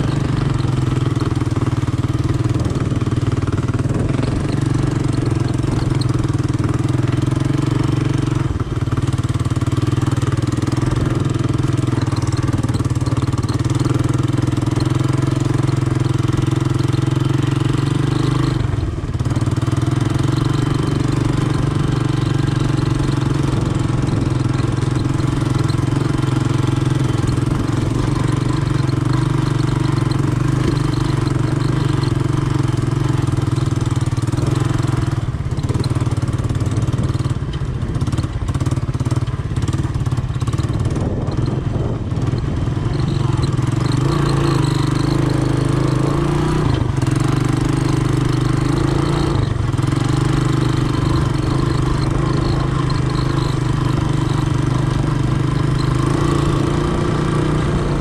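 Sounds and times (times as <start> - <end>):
three-wheeler engine running: 0.0 - 58.0.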